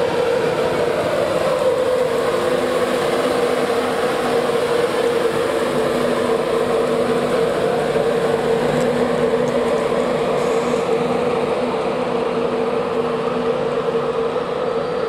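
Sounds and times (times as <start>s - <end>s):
electric locomotive hum: 0.0s - 15.0s
locomotive whine: 0.0s - 15.0s
train rumble: 0.0s - 15.0s.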